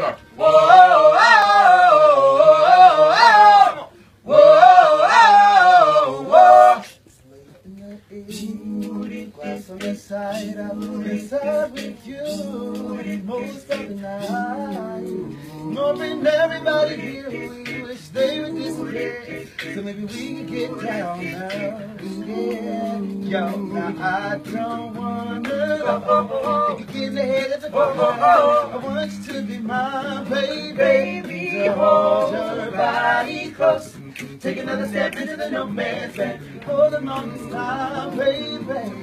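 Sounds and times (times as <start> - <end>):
male group singing in harmony: 0.0 - 6.9, 7.7 - 39.0.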